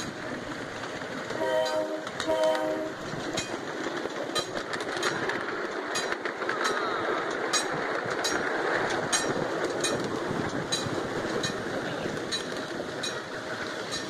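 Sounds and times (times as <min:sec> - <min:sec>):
steel wheels rumbling on rail: 0:00.0 - 0:14.0
wheels clicking over rail joints: 0:00.0 - 0:14.0.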